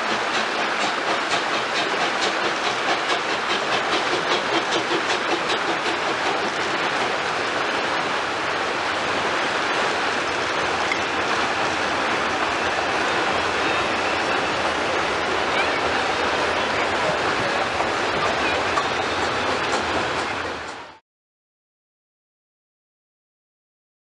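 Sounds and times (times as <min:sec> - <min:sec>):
steam locomotive chuffing: 0:00.0 - 0:21.0
train coaches rolling and clattering: 0:00.0 - 0:21.0.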